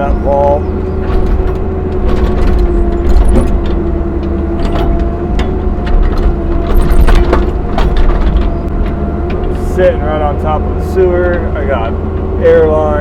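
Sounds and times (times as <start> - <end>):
excavator diesel engine: 0.0 - 13.0
hydraulic whine: 0.0 - 13.0.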